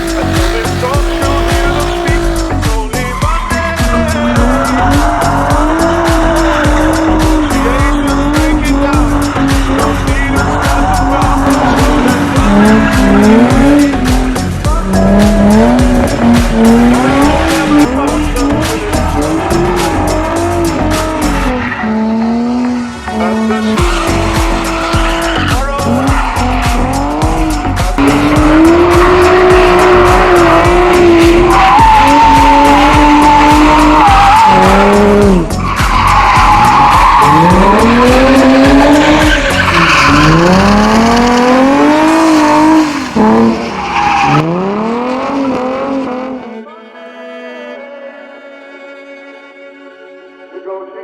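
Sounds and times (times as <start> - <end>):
tyres squealing: 0.0 - 46.1
car engine revving: 0.0 - 46.7
music playing: 0.0 - 48.5.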